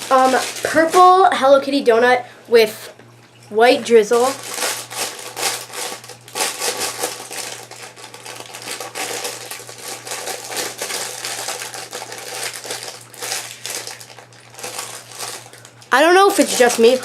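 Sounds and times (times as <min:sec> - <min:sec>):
plastic packaging crinkling: 0:00.0 - 0:01.4, 0:04.1 - 0:17.0.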